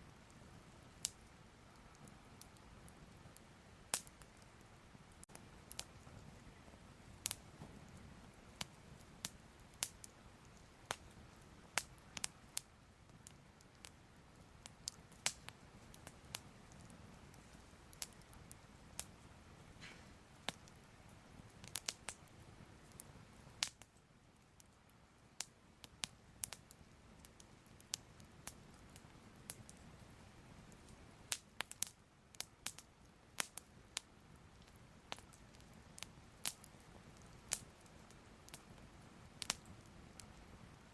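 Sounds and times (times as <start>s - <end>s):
fire crackling with pops and snaps: 0.0s - 40.9s.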